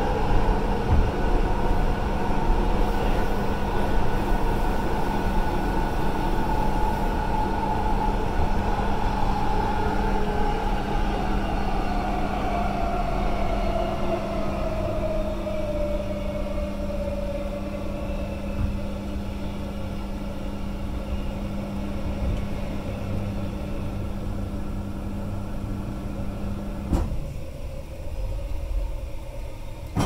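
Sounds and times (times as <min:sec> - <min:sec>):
electric train rumble: 0:00.0 - 0:30.0
train hum and whine: 0:00.0 - 0:30.0.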